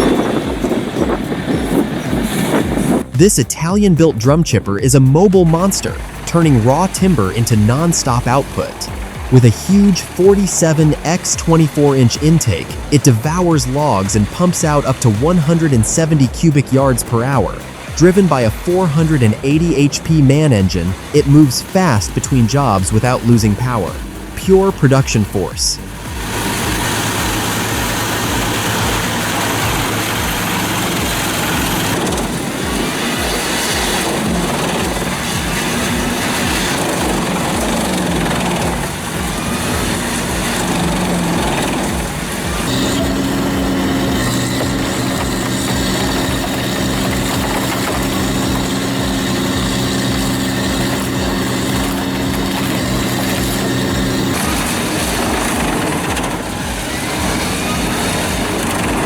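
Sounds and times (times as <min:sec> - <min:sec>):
diesel engine hum: 0:00.0 - 0:59.0
steady droning pitch: 0:02.9 - 0:59.0
wood chipper grinding timber: 0:05.2 - 0:59.0.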